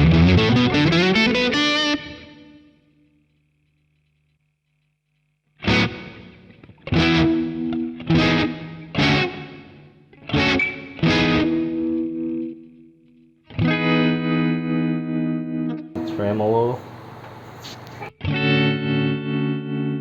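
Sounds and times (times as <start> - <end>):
electric guitar chords strummed: 0.0 - 3.2, 5.6 - 20.0.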